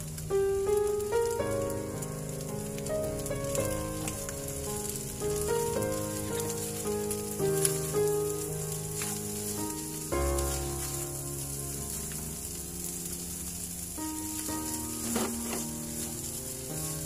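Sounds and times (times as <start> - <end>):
background music: 0.0 - 17.0
food sizzling in a frying pan: 0.0 - 17.0.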